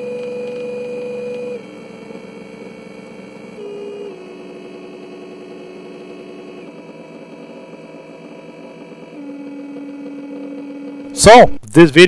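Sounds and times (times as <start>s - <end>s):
cooling fan motor hum and whine: 0.0s - 11.6s.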